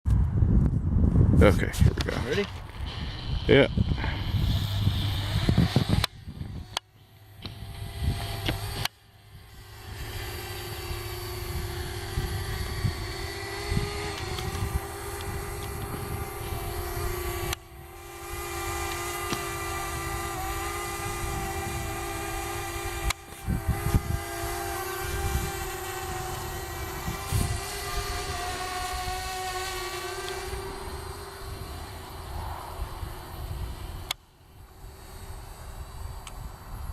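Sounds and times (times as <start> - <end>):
drone propellers whining: 1.5 - 36.9.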